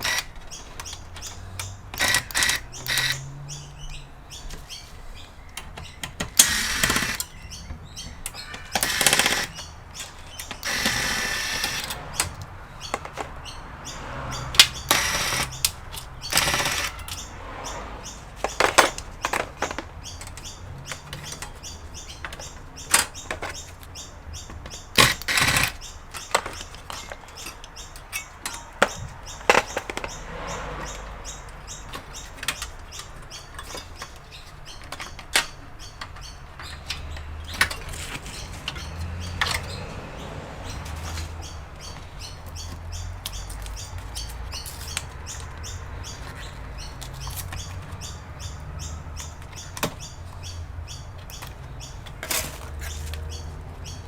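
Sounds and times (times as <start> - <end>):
tools tapping and knocking on casing: 0.0 - 17.3, 18.4 - 54.0.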